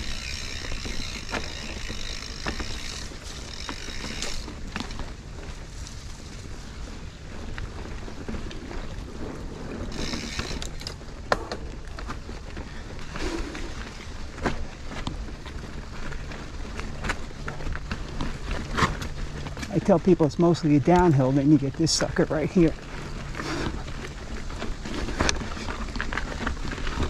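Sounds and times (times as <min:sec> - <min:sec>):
bike rattling and knocking: 0:00.0 - 0:06.5, 0:07.3 - 0:27.0
bike tyres rolling on dirt: 0:00.0 - 0:27.0
wind rumble: 0:00.0 - 0:27.0.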